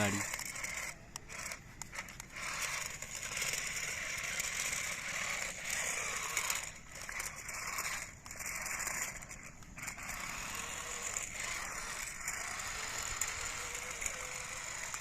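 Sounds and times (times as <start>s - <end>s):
toy truck motor whirring: 0.0s - 15.0s.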